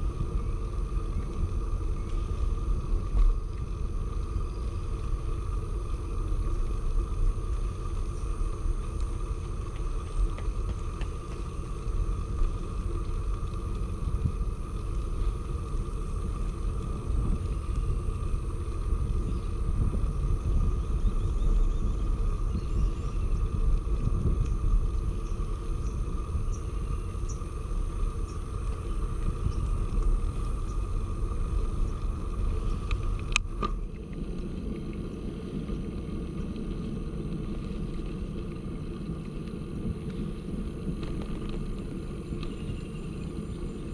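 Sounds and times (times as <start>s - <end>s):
bicycle tyres rumbling on pavement: 0.0s - 43.9s.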